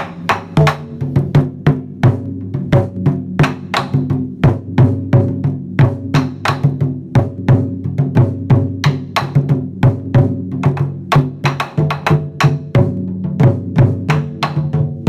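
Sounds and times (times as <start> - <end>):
quick drum beat: 0.0 - 15.0.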